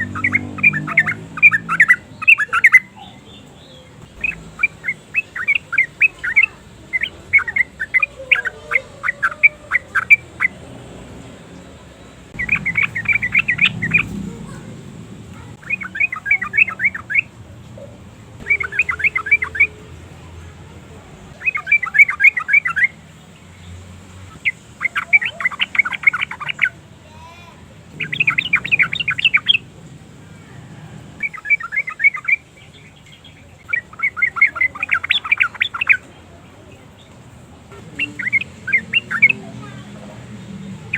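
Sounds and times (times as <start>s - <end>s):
bird song rapid chattering: 0.0s - 40.9s.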